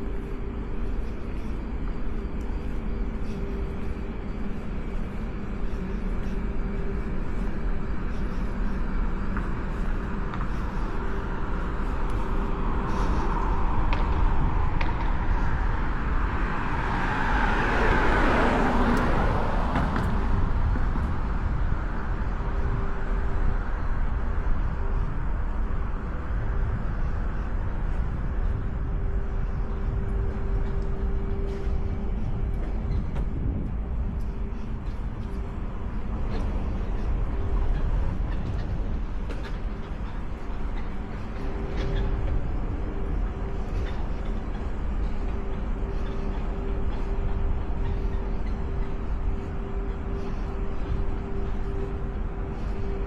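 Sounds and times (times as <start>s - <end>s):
faint steady hum: 0.0s - 53.0s
low traffic rumble: 0.0s - 53.0s.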